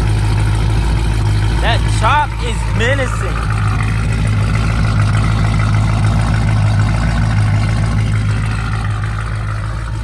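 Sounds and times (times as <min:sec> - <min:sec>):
car engine idling with choppy lope: 0:00.0 - 0:10.0.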